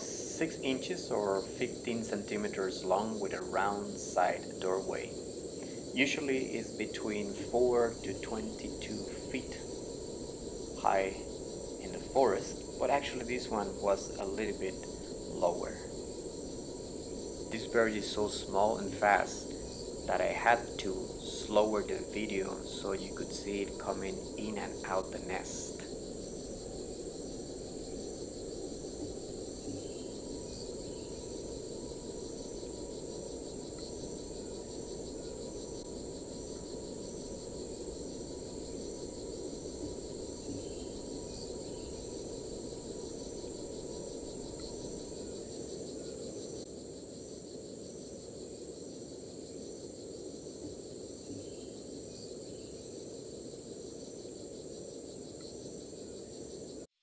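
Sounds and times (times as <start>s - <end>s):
insects trilling: 0.0s - 57.0s
low hiss: 0.0s - 57.0s.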